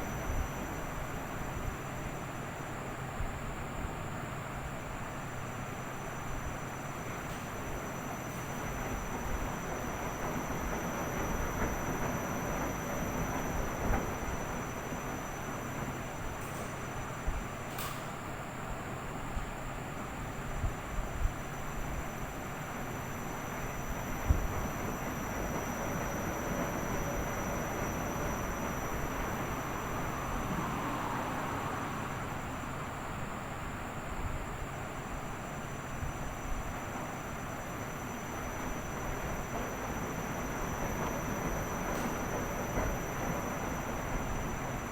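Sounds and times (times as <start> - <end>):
faint high whine: 0.0 - 44.9.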